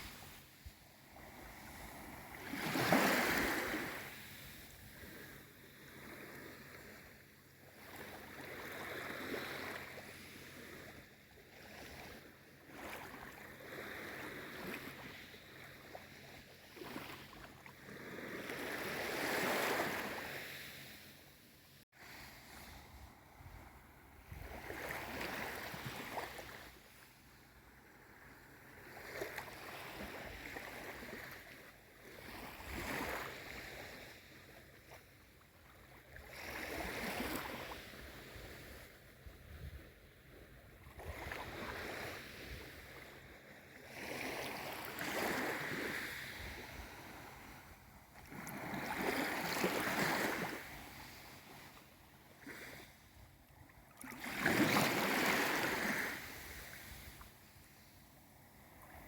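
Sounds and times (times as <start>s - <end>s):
small waves washing in: 0.0s - 21.4s, 22.0s - 59.0s.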